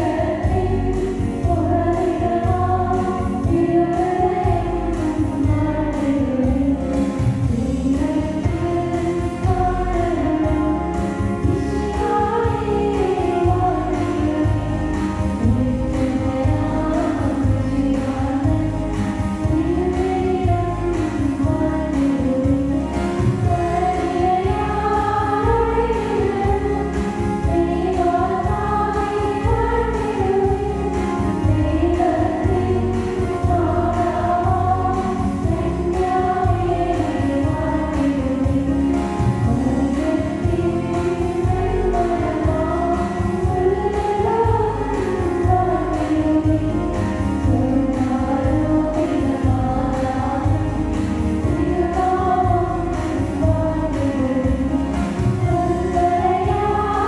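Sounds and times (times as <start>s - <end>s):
choir singing a hymn: 0.0s - 5.9s, 11.4s - 22.0s, 23.5s - 47.0s, 47.7s - 57.0s
instrumental backing: 0.0s - 57.0s.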